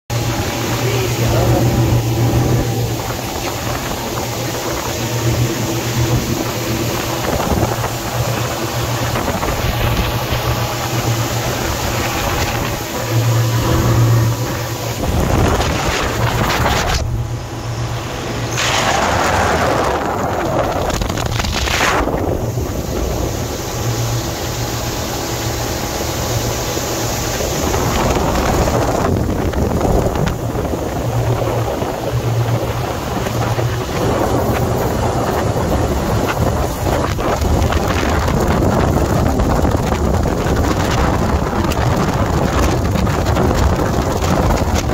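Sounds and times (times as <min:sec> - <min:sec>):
outboard boat engine drone: 0:00.0 - 0:44.9
wind buffeting microphone: 0:00.1 - 0:44.9.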